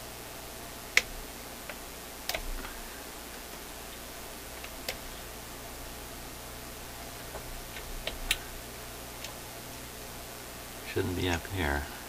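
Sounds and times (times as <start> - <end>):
steady low hum and hiss: 0.0 - 12.0.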